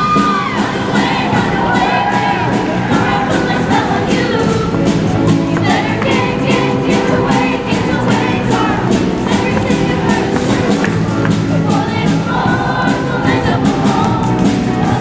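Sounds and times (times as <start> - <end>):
backing track with steady beat: 0.0 - 15.0
choir singing: 0.0 - 15.0.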